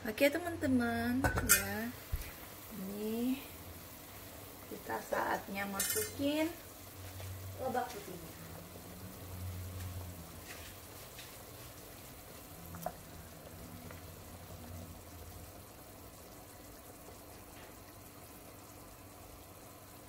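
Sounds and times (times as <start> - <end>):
soup simmering in a pot: 0.1 - 20.0.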